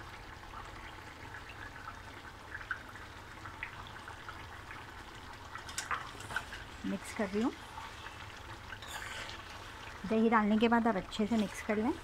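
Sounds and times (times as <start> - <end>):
gravy bubbling and popping: 0.0 - 12.0.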